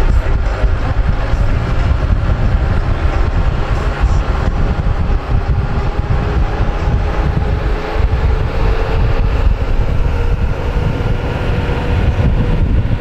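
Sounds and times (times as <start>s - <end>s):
vehicle road noise rumble: 0.0s - 13.0s.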